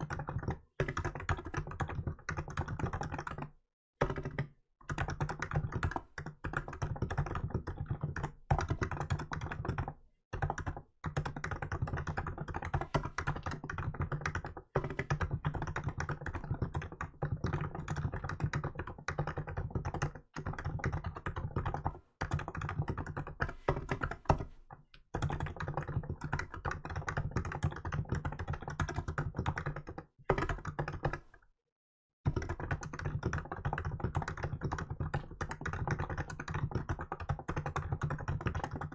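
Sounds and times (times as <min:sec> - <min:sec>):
fast keyboard typing: 0:00.0 - 0:31.4, 0:32.3 - 0:38.9.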